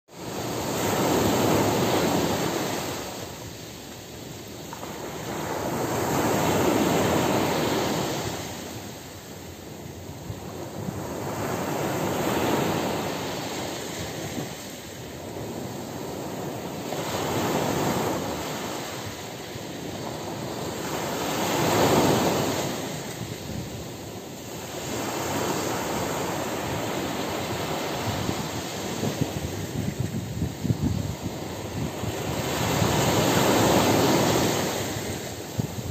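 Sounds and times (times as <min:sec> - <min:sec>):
sea waves breaking on beach: 0:00.1 - 0:35.9.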